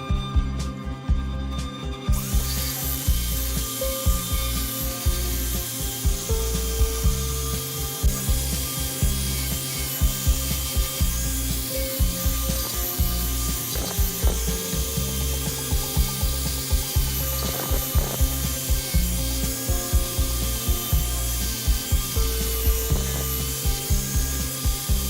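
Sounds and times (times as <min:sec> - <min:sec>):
woodworking tool cutting wood: 0:01.6 - 0:25.0.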